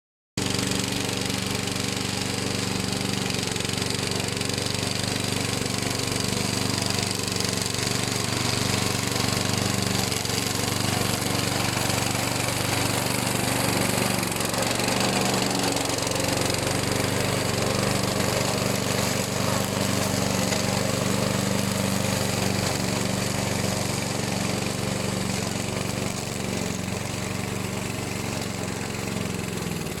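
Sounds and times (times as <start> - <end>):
lawn mower engine running: 0.4 - 30.0.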